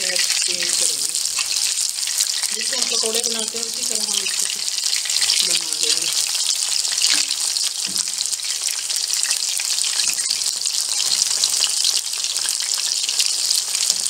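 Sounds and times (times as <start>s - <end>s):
deep-frying sizzle and crackle: 0.0s - 14.0s.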